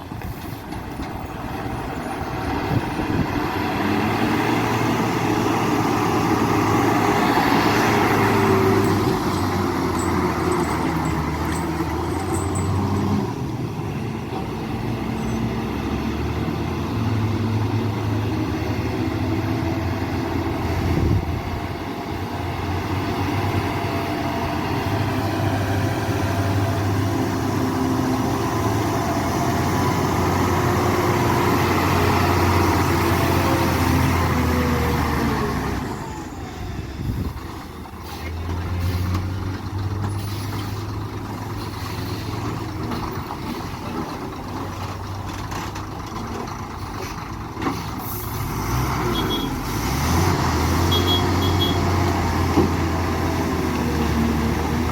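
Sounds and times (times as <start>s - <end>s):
truck diesel engine droning: 0.0s - 54.9s.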